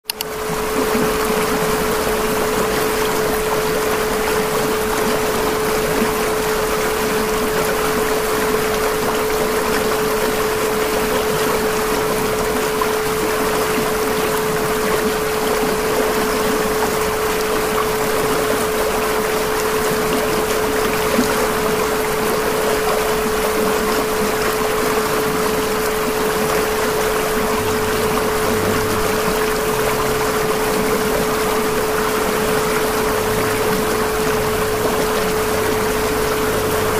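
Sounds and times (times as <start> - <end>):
running water: 0.0 - 36.9
steady pure tone: 0.0 - 36.9.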